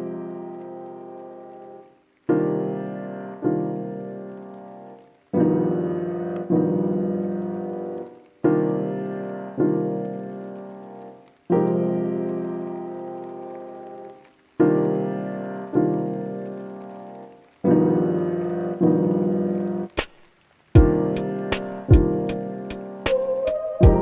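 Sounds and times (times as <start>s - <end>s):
slow solo piano music: 0.0s - 20.0s, 20.8s - 24.0s.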